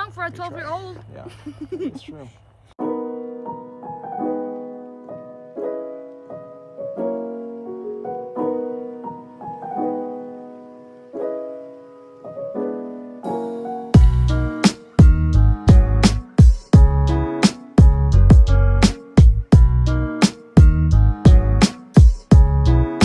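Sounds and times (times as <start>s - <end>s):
slow gentle piano music: 2.8s - 23.0s.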